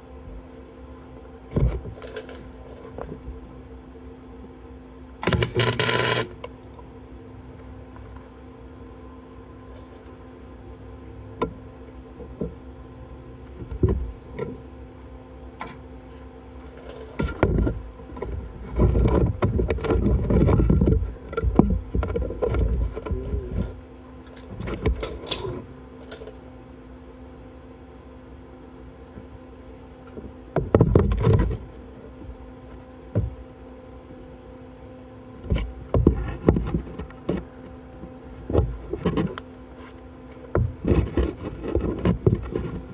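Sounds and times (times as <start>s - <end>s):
electrical hum: 0.0s - 42.9s.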